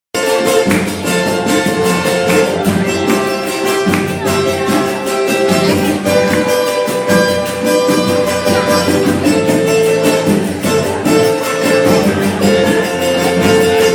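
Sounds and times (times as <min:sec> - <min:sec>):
samba percussion beat: 0:00.1 - 0:13.9
held chords and plucked strings: 0:00.2 - 0:13.9.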